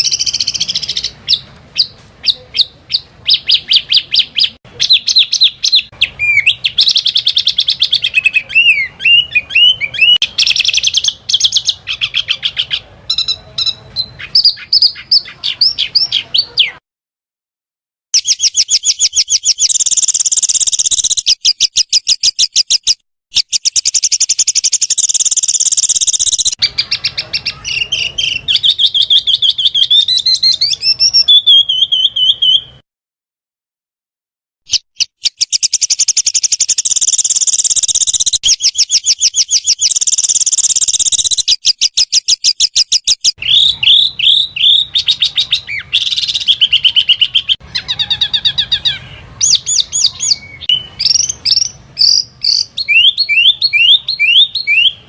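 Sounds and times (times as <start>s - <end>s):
songbirds chirping and trilling: 0.0s - 16.8s, 18.2s - 32.8s, 34.7s - 55.0s.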